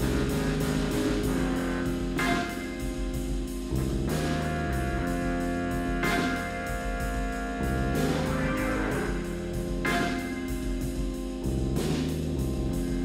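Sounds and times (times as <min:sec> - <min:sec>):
music with steady beat and chords: 0:00.0 - 0:13.0.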